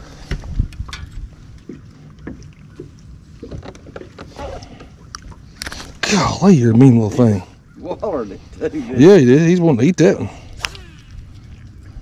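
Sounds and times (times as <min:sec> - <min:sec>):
wind and water against hull: 0:00.0 - 0:12.0.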